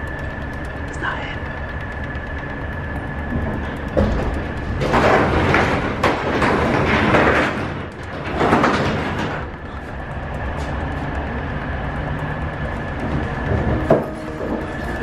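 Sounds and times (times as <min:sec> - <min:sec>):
truck road rumble with rattling: 0:00.0 - 0:15.0.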